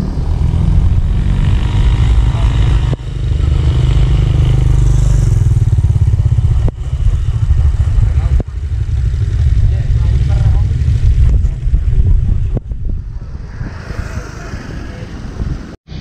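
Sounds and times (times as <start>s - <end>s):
motorcycle engines rumbling past: 0.0s - 16.0s.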